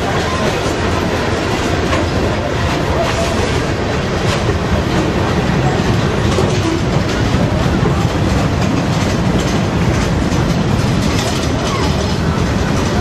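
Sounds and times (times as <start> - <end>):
freight train rumbling: 0.0 - 13.0
wheels clicking over rail joints: 0.0 - 13.0.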